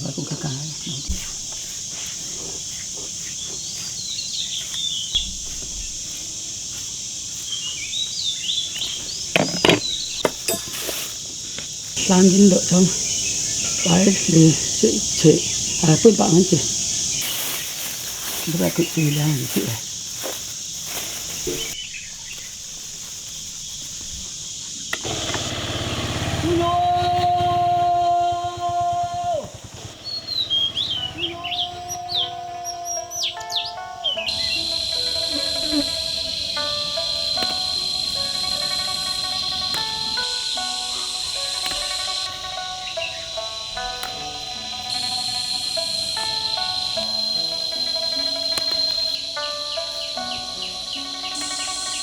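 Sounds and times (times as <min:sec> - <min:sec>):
bird twittering: 0:00.0 - 0:22.6, 0:27.5 - 0:52.0
insects droning: 0:00.0 - 0:52.0.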